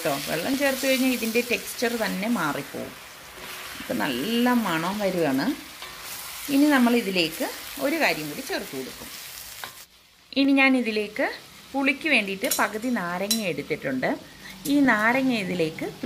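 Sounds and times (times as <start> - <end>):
chicken sizzling in a pan: 0.0 - 13.4.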